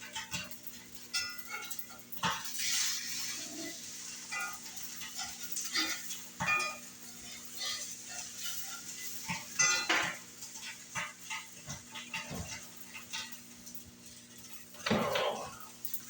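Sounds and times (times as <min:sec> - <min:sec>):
metal utensil scraping a pan: 0:01.1 - 0:13.4, 0:14.4 - 0:16.0.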